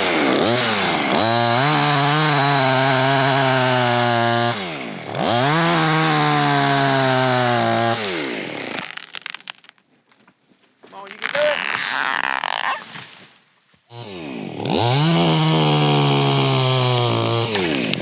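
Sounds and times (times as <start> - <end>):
chainsaw cutting wood: 0.0 - 9.9, 10.9 - 18.0.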